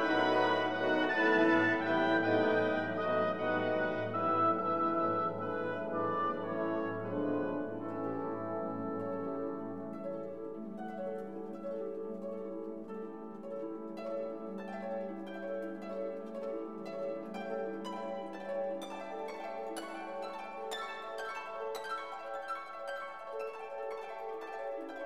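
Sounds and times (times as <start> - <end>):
plucked strings melody: 0.0 - 25.0.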